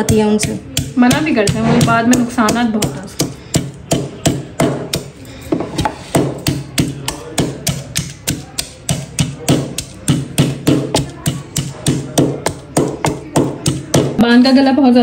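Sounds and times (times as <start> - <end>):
ginger being crushed: 0.0 - 14.2.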